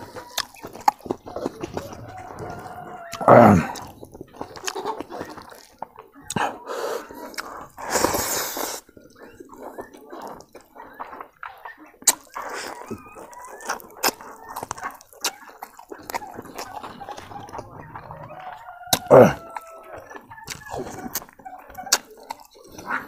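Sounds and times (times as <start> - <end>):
wet chewing: 0.0 - 17.6, 18.4 - 23.0.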